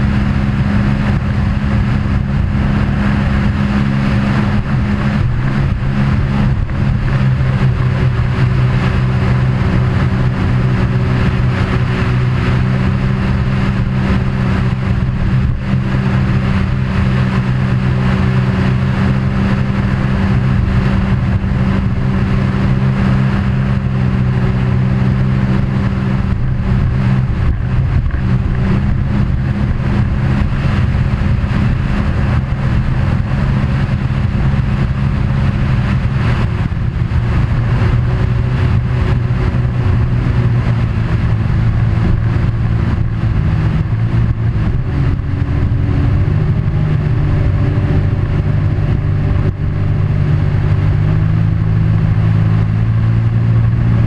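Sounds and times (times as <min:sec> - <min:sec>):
engine drone: 0:00.0 - 0:54.0
wide rushing noise: 0:00.0 - 0:54.0.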